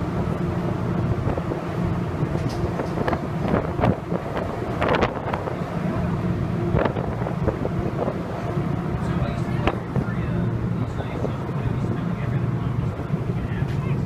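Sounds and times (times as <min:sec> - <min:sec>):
wind rushing over microphone: 0:00.0 - 0:13.5
ferry engines droning: 0:00.0 - 0:14.0.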